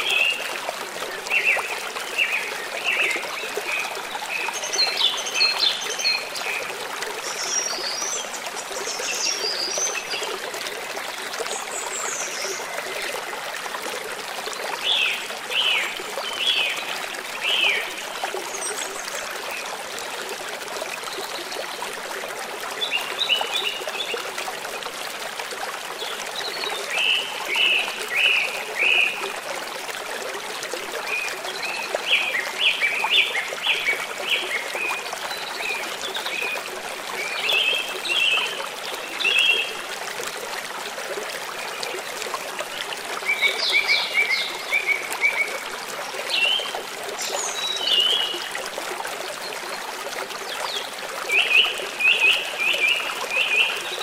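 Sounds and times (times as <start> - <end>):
gentle river flowing: 0.0 - 54.0.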